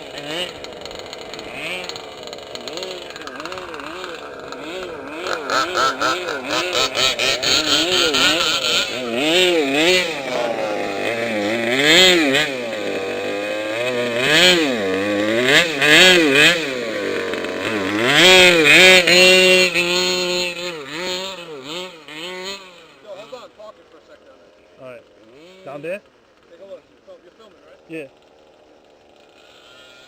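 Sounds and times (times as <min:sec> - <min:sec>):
small two-stroke engine revving: 0:00.0 - 0:30.0.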